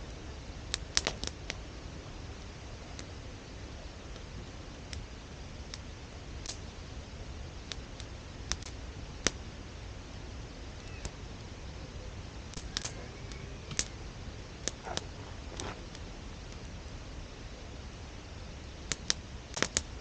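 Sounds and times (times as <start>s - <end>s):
low steady hiss: 0.0s - 20.0s
wood fire crackling and popping: 0.1s - 11.5s, 12.3s - 20.0s.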